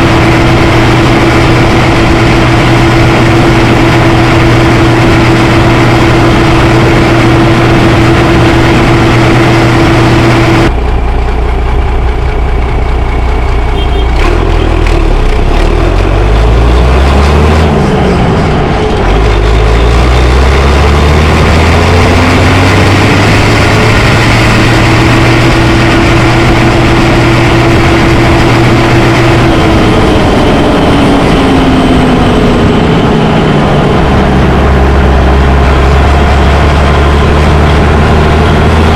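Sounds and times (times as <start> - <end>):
tractor diesel engine: 0.0 - 38.9.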